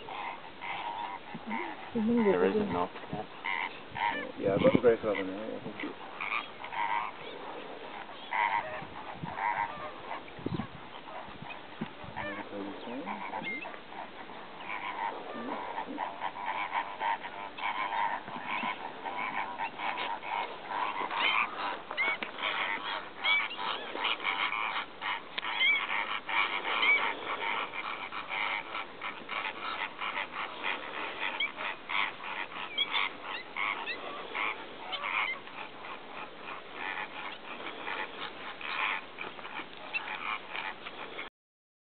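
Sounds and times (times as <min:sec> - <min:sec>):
flamingos honking: 0:00.0 - 0:41.3.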